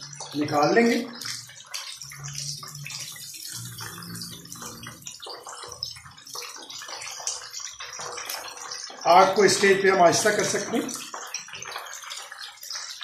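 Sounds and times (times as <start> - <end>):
chicken sizzling in frying oil: 0.0 - 13.0.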